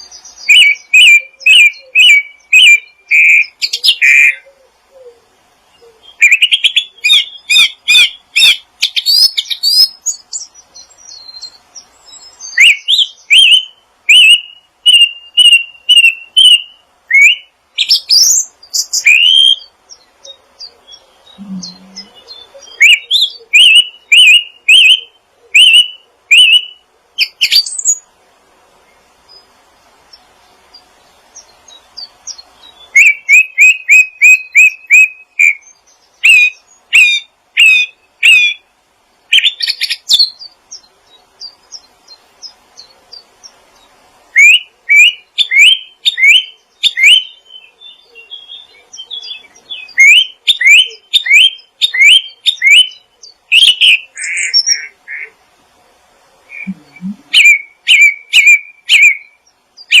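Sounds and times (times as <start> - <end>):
small songbird chirping: 0.0 - 28.2, 28.8 - 55.4, 56.4 - 60.0.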